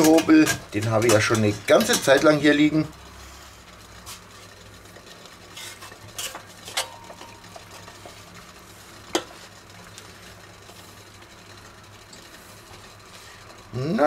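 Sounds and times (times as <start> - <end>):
water boiling: 0.0 - 14.0.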